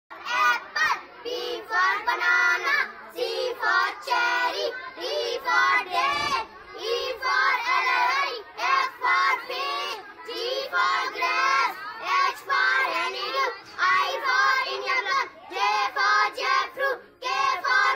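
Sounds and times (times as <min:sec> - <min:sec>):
girls chanting: 0:00.1 - 0:17.9.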